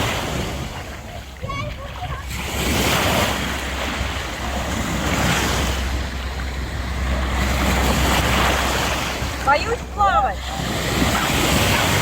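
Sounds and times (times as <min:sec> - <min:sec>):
sea waves breaking: 0:00.0 - 0:12.0
wind buffeting microphone: 0:00.0 - 0:12.0.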